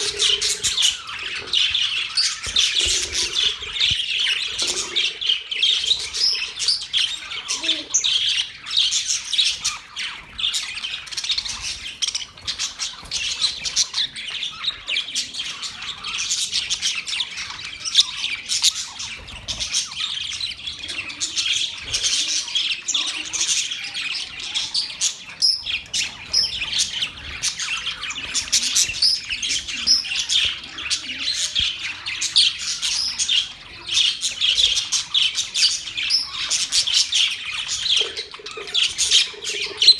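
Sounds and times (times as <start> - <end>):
parakeets chirping and warbling: 0.0 - 39.9.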